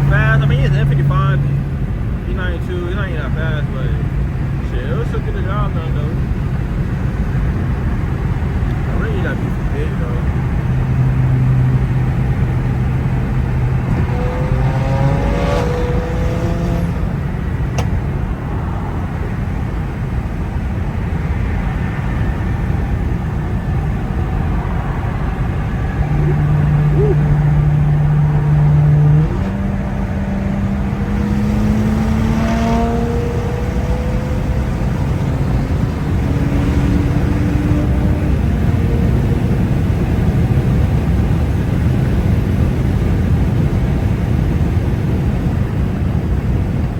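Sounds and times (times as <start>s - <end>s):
car engine accelerating: 0.0s - 46.9s
road noise: 0.0s - 46.9s.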